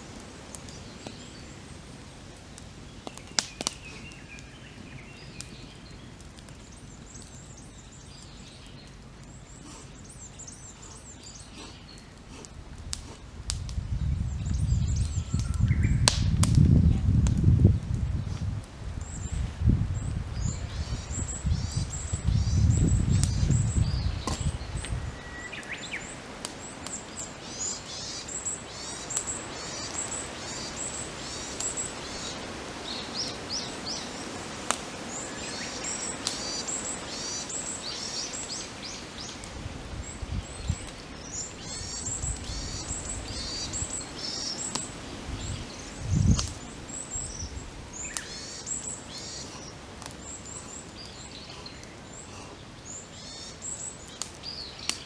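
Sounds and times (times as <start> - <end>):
campfire crackling and popping: 0.0 - 55.0
small birds singing: 0.0 - 55.0.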